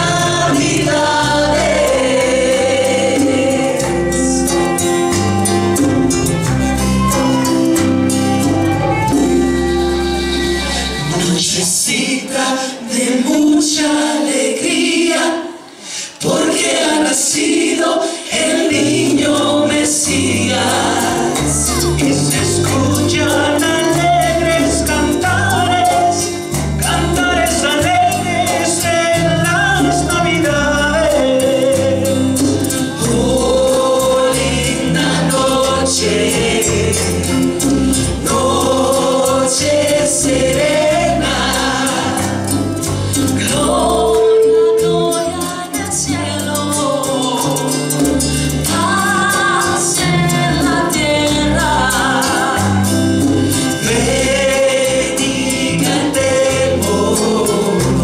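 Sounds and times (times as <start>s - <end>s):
women singing together: 0.0s - 4.4s, 11.5s - 32.4s, 33.0s - 47.6s, 48.6s - 58.0s
hand drums: 0.0s - 11.1s, 18.6s - 58.0s
bass line: 0.0s - 11.6s, 18.7s - 58.0s
guitar: 0.0s - 13.8s, 14.6s - 58.0s.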